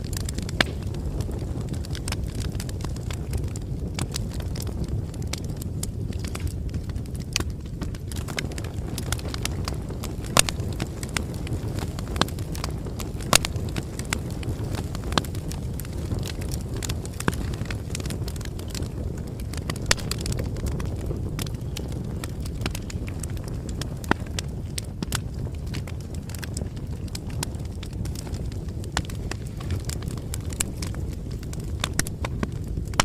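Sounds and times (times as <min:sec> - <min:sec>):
bonfire crackling: 0:00.0 - 0:33.0.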